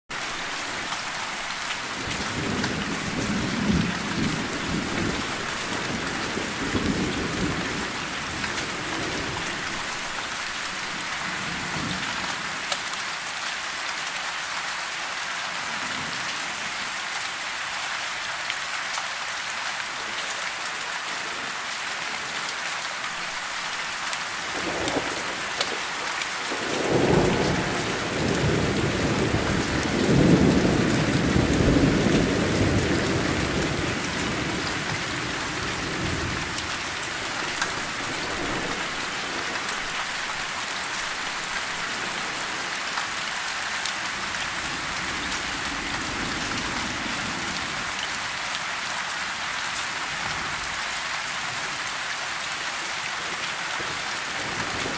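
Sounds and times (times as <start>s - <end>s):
rain falling on leaves: 0.1s - 54.9s.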